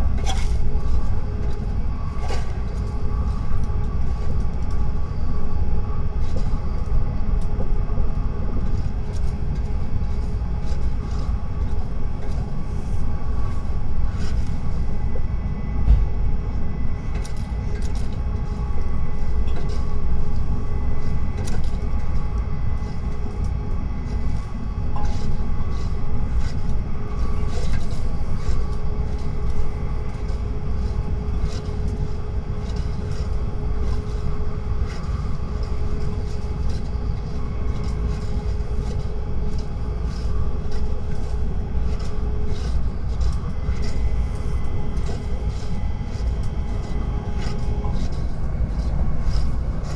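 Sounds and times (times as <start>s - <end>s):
faint whining tones: 0.0s - 49.9s
train low rumble: 0.0s - 49.9s.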